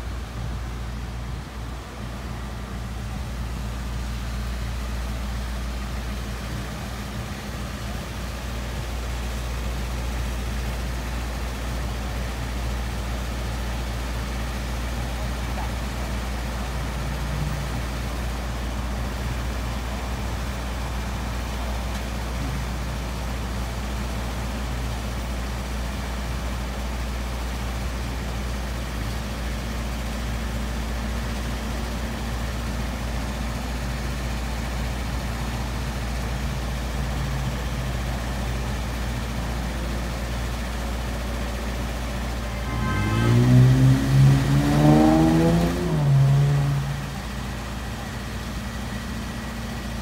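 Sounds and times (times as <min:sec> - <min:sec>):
truck engine idling: 0:00.0 - 0:50.0.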